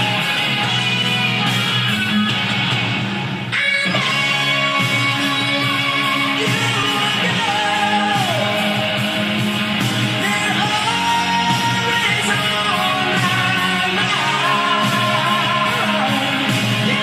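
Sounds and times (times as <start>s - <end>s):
rock song through boombox speakers: 0.0s - 17.0s.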